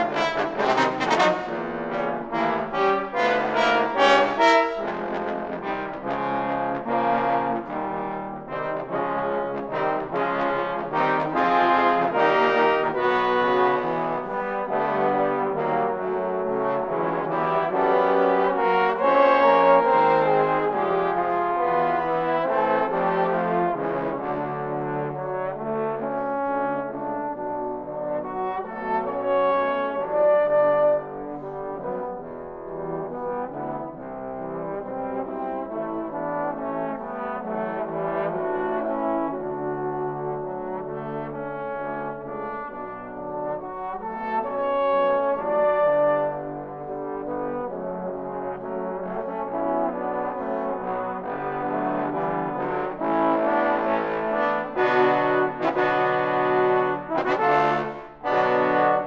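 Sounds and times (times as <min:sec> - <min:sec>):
trombone choir playing chords: 0:00.0 - 0:59.0.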